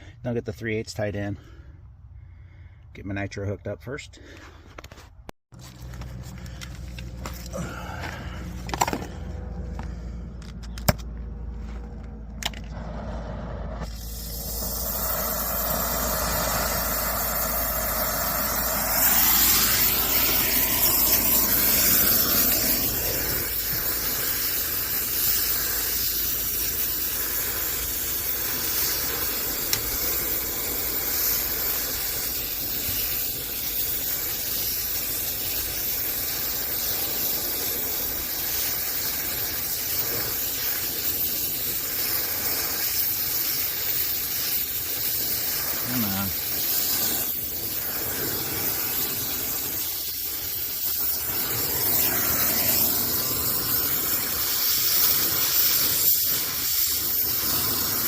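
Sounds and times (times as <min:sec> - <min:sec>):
torch flame hissing: 0:05.6 - 0:58.0.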